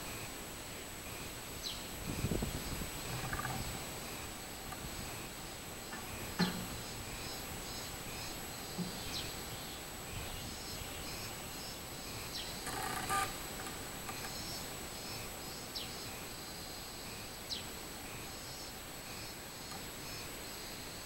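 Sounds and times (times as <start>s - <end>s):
cicada singing: 0.0s - 21.0s.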